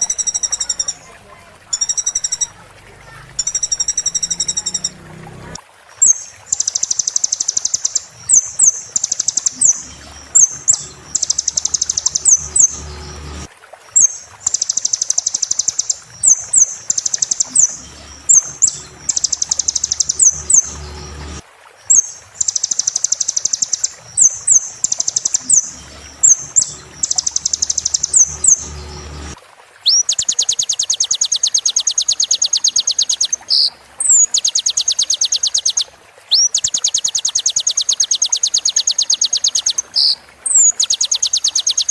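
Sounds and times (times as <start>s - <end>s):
songbird chirps and whistles: 0.0s - 1.1s, 1.8s - 2.6s, 3.4s - 5.0s, 6.0s - 41.9s
buzzy bird trill: 0.0s - 1.2s, 1.8s - 2.6s, 3.2s - 5.1s, 6.0s - 41.9s.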